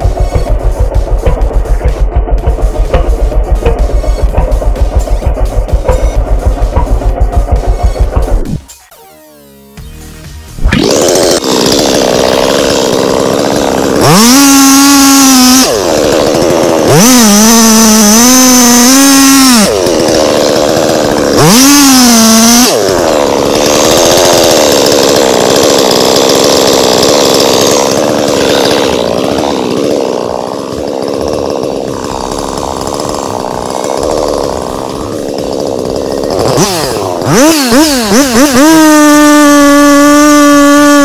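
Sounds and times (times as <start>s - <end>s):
chainsaw cutting wood: 0.0s - 8.8s, 10.5s - 41.0s.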